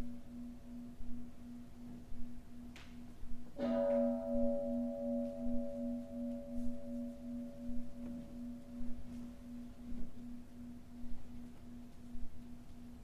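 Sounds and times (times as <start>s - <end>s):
singing bowl ringing: 0.0s - 13.0s.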